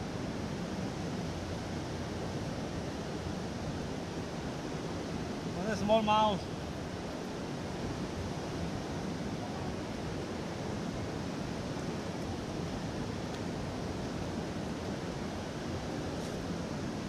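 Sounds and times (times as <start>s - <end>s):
river water pouring over dam: 0.0s - 17.0s.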